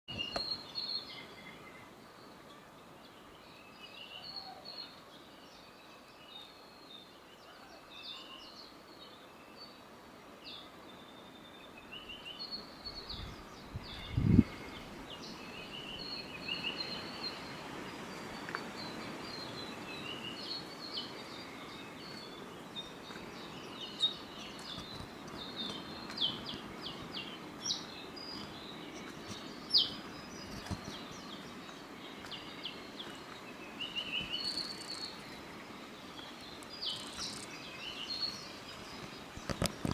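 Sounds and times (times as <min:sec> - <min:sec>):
forest birds chirping and trilling: 0:00.1 - 0:39.9.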